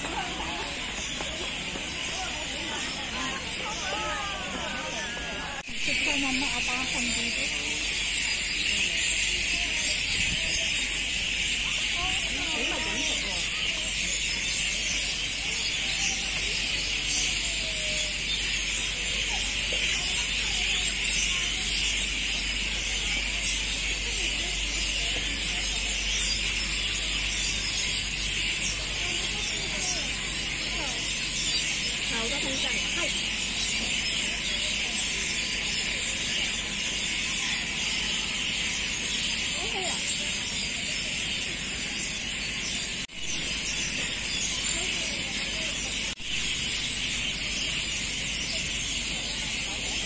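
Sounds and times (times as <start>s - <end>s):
faint distant voices: 0.0s - 50.0s.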